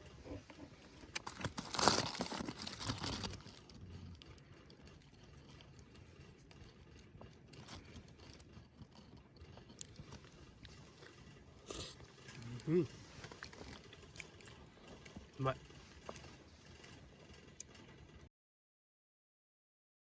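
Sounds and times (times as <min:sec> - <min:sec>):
crinkling and crunching handling: 0:00.1 - 0:17.7.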